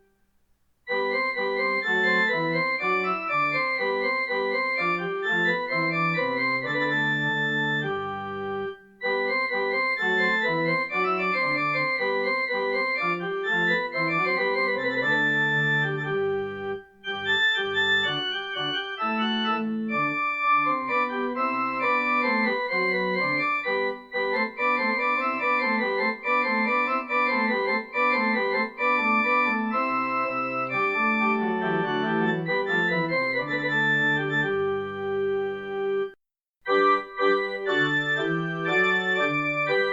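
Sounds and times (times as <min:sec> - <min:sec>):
organ playing slow chords: 0:00.9 - 0:36.1, 0:36.7 - 0:39.9.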